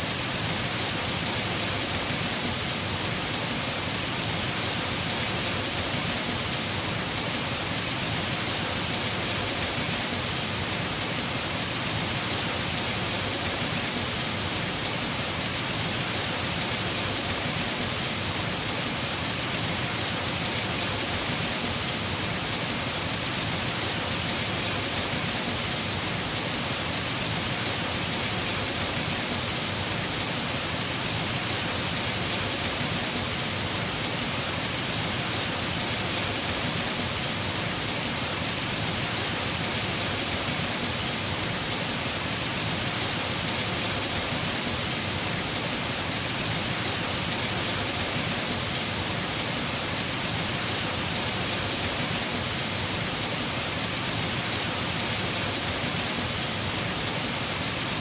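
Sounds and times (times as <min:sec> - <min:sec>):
heavy rain on a roof: 0:00.0 - 0:58.0.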